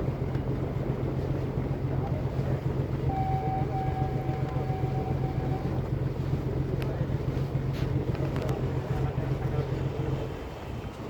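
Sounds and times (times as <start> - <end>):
boat engine humming: 0.0 - 11.0
wind buffeting microphone: 0.0 - 11.0.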